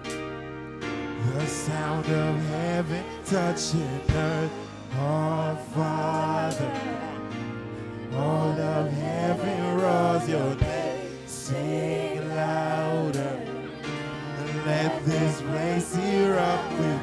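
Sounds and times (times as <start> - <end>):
sustained low backing notes: 0.0 - 17.0
man singing into microphone: 1.2 - 7.3, 8.1 - 13.5, 14.3 - 17.0.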